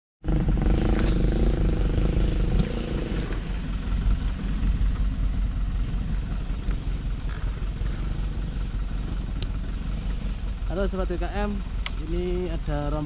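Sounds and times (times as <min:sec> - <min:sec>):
motorcycle engine running: 0:00.2 - 0:13.0.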